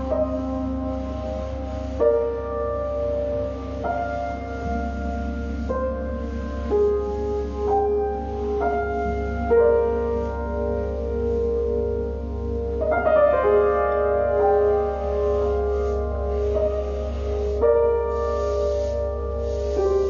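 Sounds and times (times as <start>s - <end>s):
low drone: 0.0s - 20.0s
slow keyboard notes: 0.0s - 20.0s.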